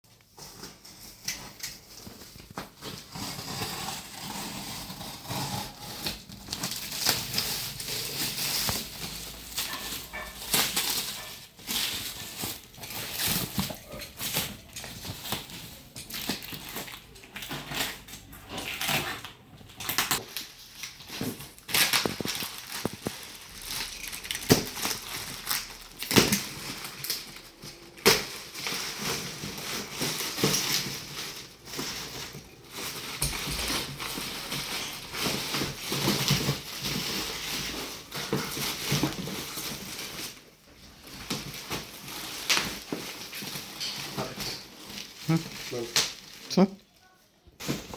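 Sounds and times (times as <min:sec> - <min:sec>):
cardboard and plastic rustling: 0:00.1 - 0:47.9.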